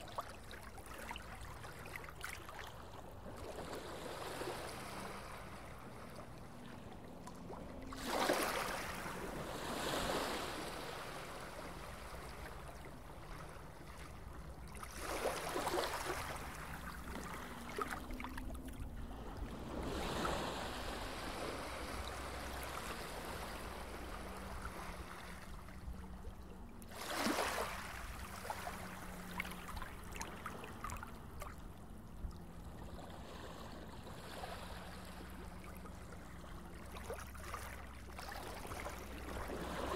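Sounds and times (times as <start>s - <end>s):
whooshing water swells: 0.3s - 39.9s.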